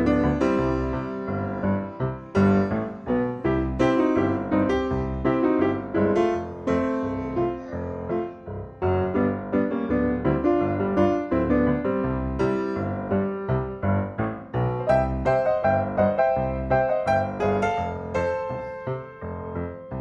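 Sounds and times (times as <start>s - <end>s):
piano-like keyboard music: 0.0s - 20.0s.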